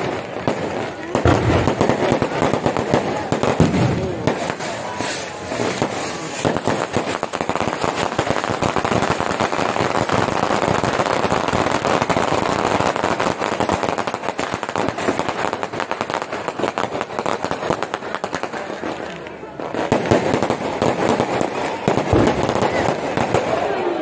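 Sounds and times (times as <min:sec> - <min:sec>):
firecrackers popping: 0:00.0 - 0:24.0.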